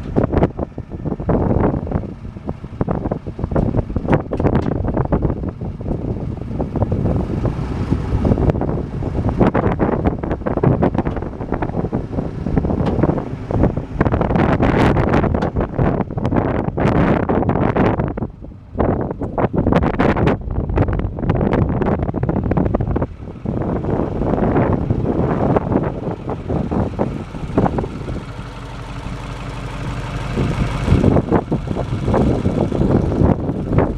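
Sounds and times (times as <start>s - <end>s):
dump truck engine rumble: 0.0s - 33.9s
strong wind buffeting microphone: 0.0s - 33.9s.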